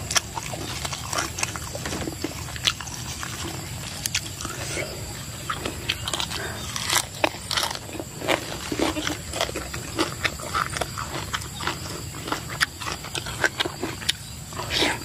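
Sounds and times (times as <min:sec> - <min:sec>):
chewing crunchy lettuce: 0:00.0 - 0:15.0.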